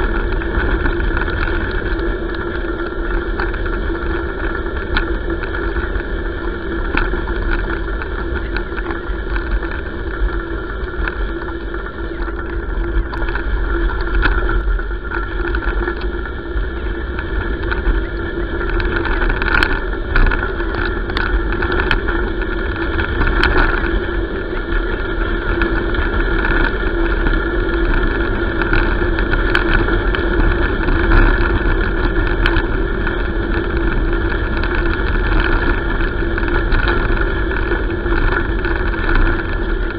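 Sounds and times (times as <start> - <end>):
gravel clicks and bumps: 0.0 - 39.9
steady hum: 0.0 - 39.9
wheels rolling on gravel: 0.0 - 39.9
wind on microphone: 0.0 - 39.9.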